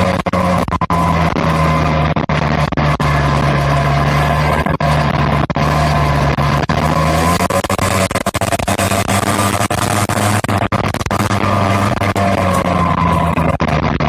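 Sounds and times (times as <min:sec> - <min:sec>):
engine exhaust droning: 0:00.0 - 0:14.0.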